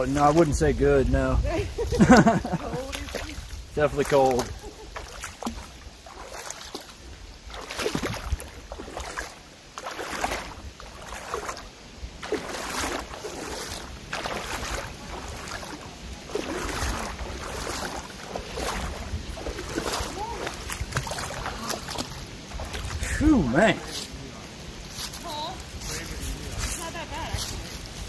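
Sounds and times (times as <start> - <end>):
feet wading through water: 0.0 - 0.8, 1.5 - 28.0.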